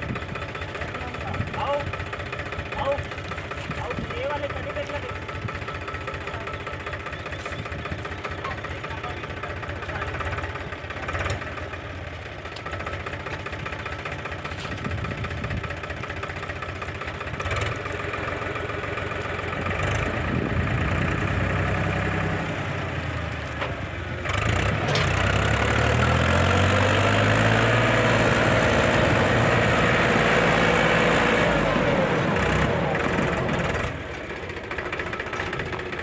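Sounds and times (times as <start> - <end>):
diesel engine idling and revving: 0.0 - 36.0.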